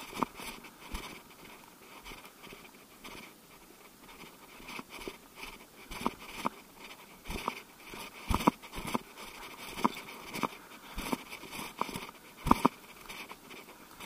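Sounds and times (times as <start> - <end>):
footsteps through dry bracken: 0.0 - 14.0.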